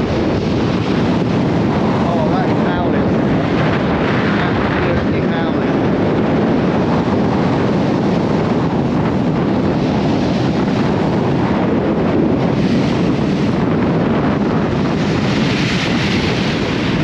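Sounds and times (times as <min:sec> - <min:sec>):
surf on shingle beach: 0:00.0 - 0:17.0
wind blowing across microphone: 0:00.0 - 0:17.0.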